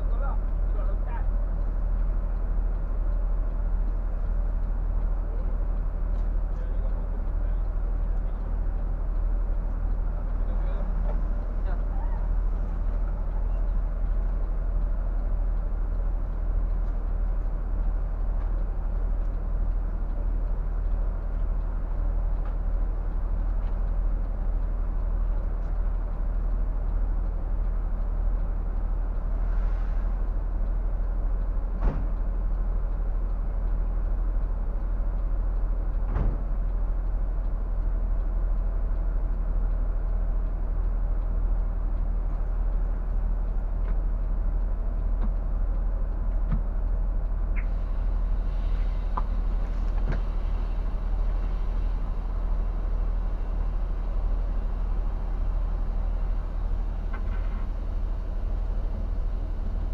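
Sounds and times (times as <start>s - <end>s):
diesel bus engine idling: 0.0s - 59.9s.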